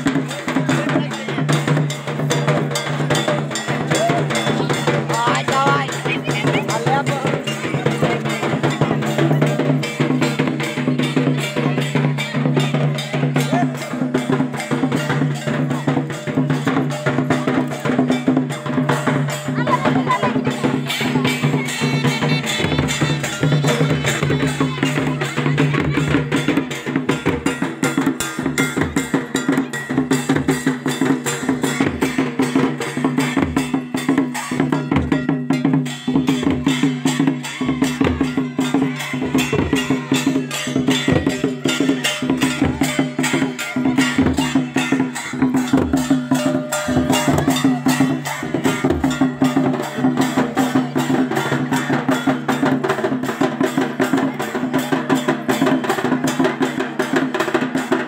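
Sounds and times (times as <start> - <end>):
drums beaten with sticks: 0.0 - 58.0.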